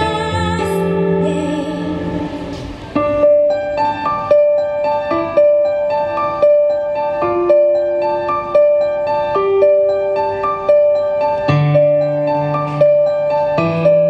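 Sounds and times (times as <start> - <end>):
piano broken chords: 0.0 - 14.0.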